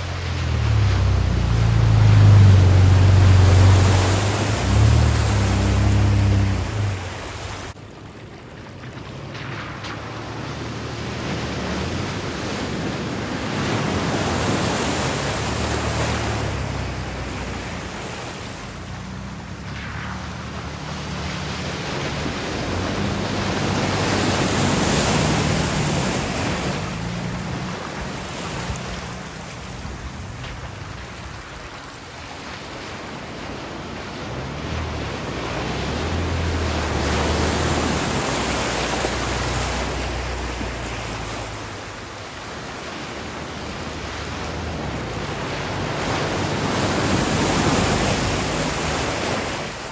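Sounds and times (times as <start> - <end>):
truck engines pulling under load: 0.0 - 8.5, 9.1 - 49.9
water sloshing and churning: 0.0 - 49.9.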